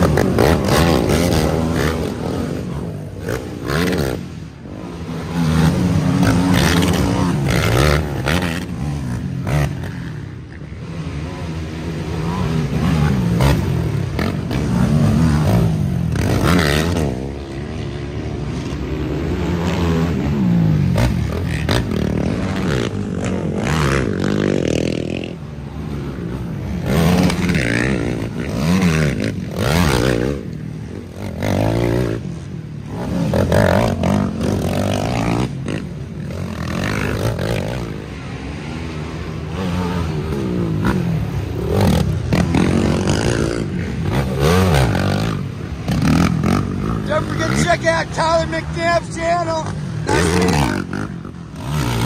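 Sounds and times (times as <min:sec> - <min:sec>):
atv engines revving: 0:00.0 - 0:52.0.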